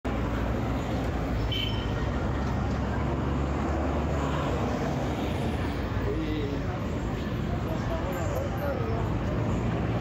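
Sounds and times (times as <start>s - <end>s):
street traffic: 0.0s - 10.0s.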